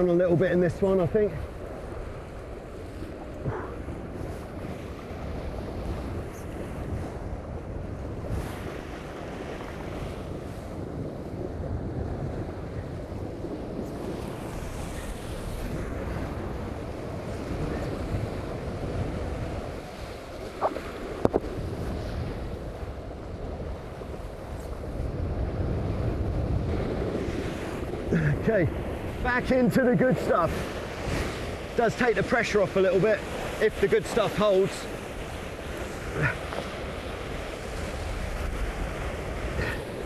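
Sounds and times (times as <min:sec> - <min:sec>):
water rushing past hulls: 0:00.0 - 0:40.0
wind buffeting microphone: 0:00.0 - 0:40.0.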